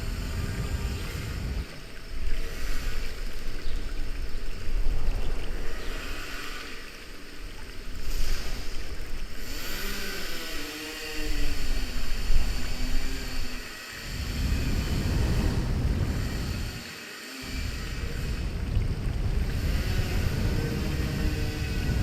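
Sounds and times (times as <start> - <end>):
water rushing and splashing: 0.0 - 22.0
wind rumbling on microphone: 0.0 - 22.0.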